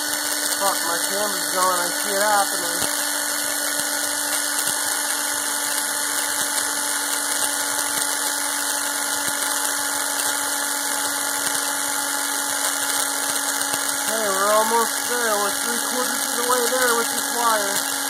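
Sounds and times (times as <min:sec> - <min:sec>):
power drill whining: 0:00.0 - 0:18.0.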